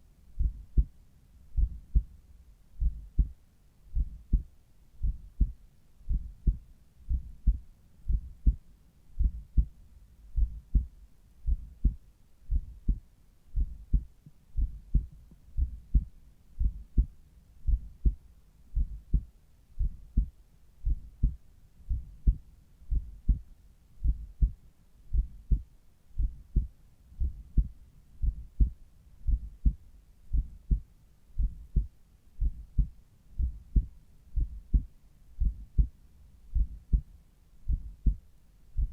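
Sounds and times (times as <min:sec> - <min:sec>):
heartbeat through a stethoscope: 0:00.4 - 0:02.2, 0:02.8 - 0:08.6, 0:09.2 - 0:38.9.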